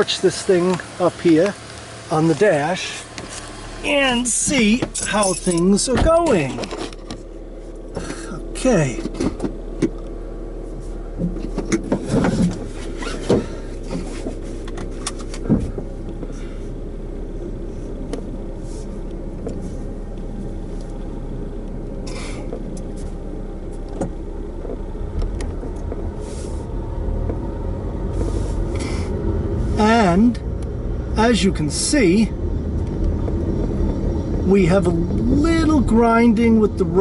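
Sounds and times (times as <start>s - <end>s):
road and engine noise in car: 0.0s - 37.0s
low rumble: 3.0s - 37.0s.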